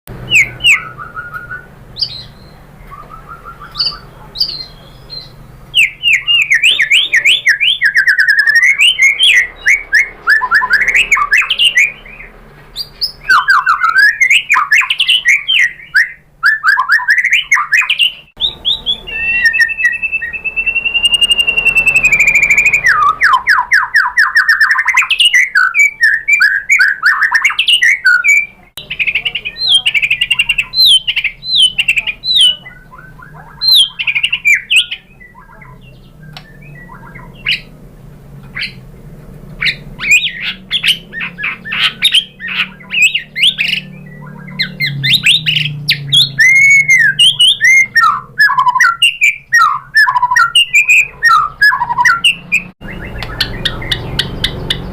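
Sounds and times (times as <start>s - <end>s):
bird singing trills and whistles: 0.2s - 37.8s, 38.5s - 38.8s, 39.6s - 54.9s.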